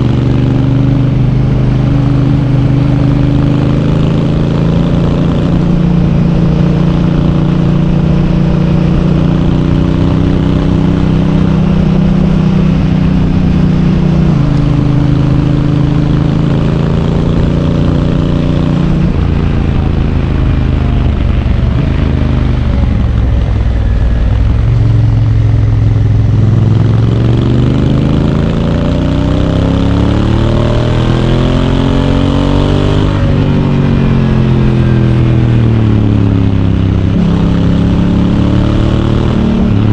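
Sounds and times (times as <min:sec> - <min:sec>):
motorcycle engine shifting gears: 0:00.0 - 0:39.9
wind and road noise: 0:00.0 - 0:39.9.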